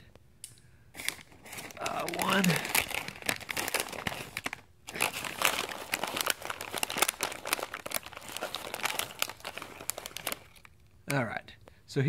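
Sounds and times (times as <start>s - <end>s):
plastic bag crinkling: 1.0s - 10.9s.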